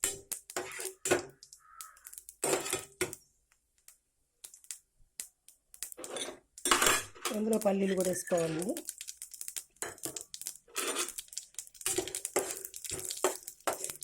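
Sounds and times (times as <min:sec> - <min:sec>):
seeds frying in oil: 0:00.0 - 0:14.0.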